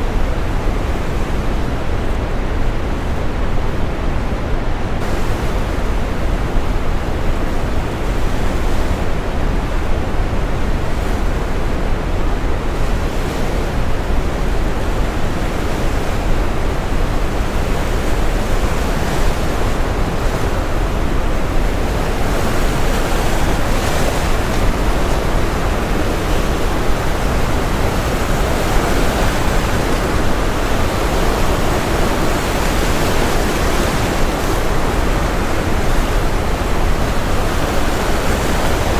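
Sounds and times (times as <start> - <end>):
steady brown noise: 0.0 - 38.9
ocean waves breaking: 4.8 - 38.9.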